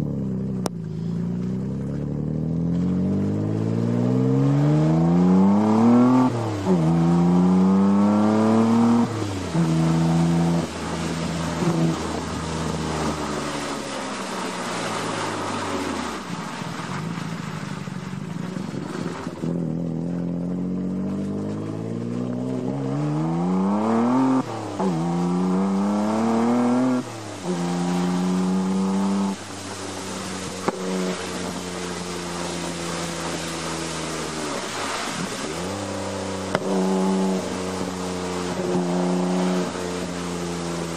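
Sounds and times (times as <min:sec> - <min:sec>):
car engine accelerating and shifting: 0:00.0 - 0:40.9.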